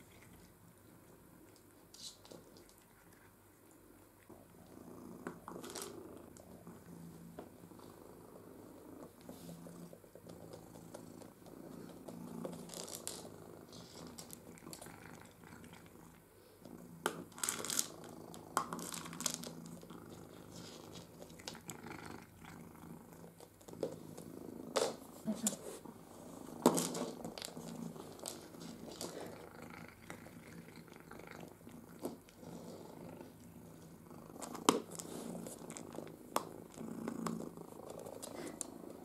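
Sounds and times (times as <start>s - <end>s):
cat purring: 0.0s - 39.0s.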